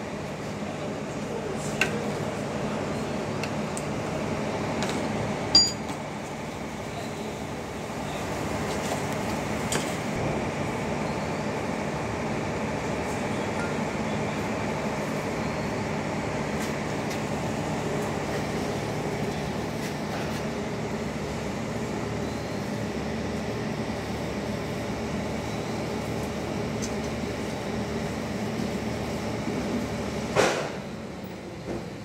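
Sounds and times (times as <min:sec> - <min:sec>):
steady machine hum: 0:00.0 - 0:32.0.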